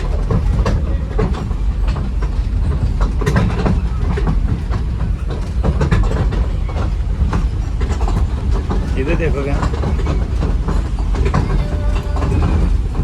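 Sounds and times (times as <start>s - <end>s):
toy train low rumble: 0.0s - 13.0s
train wheels clacking over rails: 0.0s - 13.0s.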